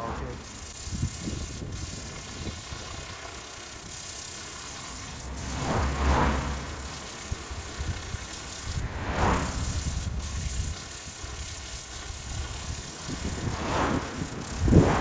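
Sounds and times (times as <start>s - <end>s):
pressure washer spraying roof: 0.0s - 15.0s.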